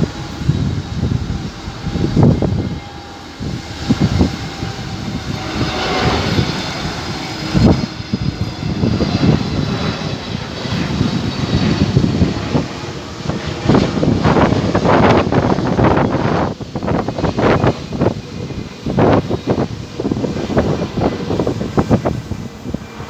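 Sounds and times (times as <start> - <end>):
jet engines whining: 0.0 - 23.0
wind buffeting microphone: 0.0 - 23.0.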